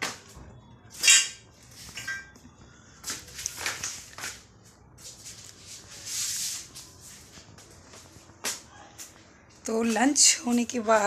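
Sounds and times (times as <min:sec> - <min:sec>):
footstep scuffs and rustles: 0:01.4 - 0:11.0.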